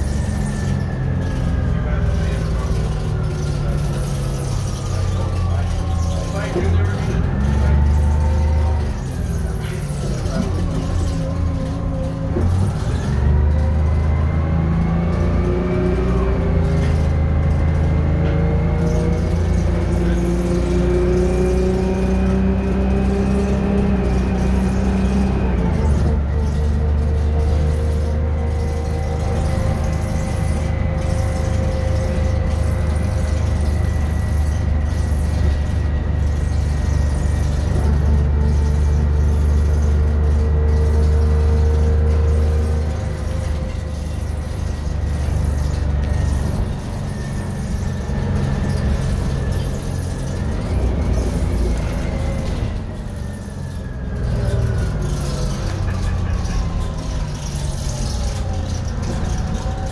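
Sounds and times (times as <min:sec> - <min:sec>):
bus engine deep drone: 0:00.0 - 0:59.9
high engine whine: 0:00.0 - 0:59.9.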